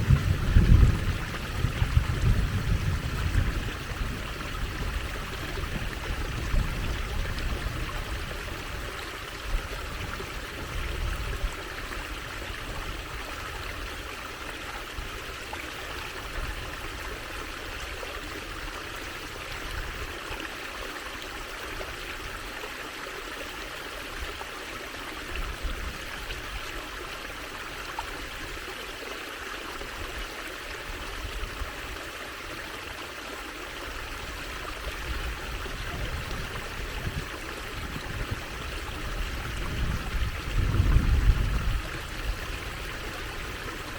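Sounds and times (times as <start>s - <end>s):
water trickling: 0.0s - 43.9s.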